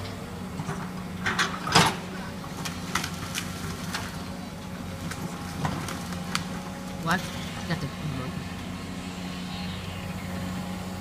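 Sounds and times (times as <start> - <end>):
excavator engine hum: 0.0 - 11.0.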